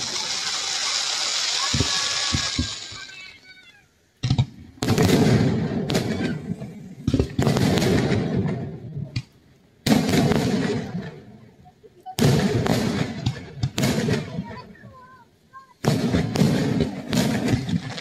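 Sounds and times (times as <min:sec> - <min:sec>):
fireworks booms with crackle: 0:00.0 - 0:18.0.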